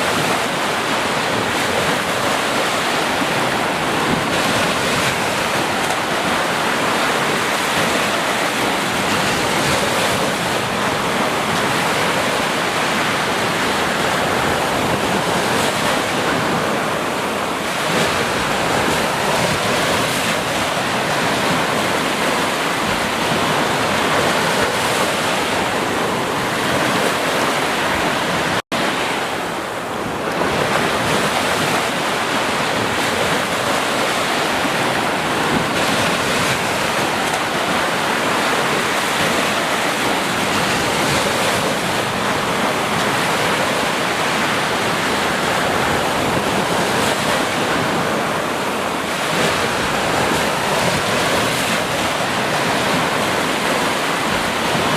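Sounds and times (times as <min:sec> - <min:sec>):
ocean surf washing onto beach: 0:00.0 - 0:54.9.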